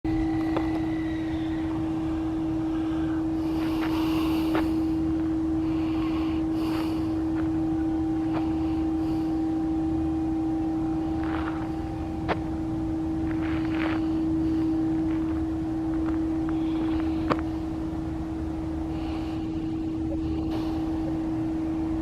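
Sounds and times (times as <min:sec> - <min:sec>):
engine hum: 0:00.0 - 0:22.0
traffic rumble: 0:00.0 - 0:22.0.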